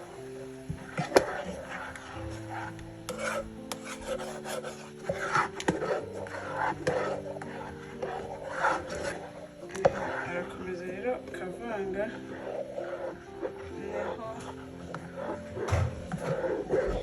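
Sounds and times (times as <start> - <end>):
background music: 0.0 - 17.0
whisk scraping a pot: 0.0 - 17.0.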